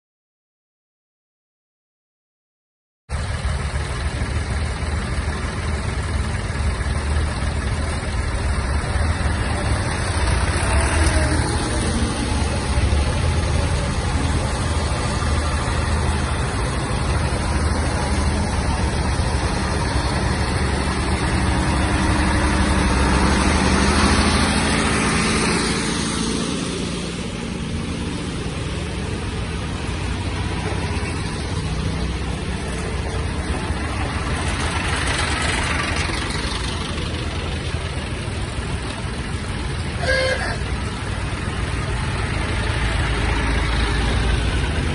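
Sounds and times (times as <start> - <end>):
diesel tractor engines passing: 3.1 - 44.9.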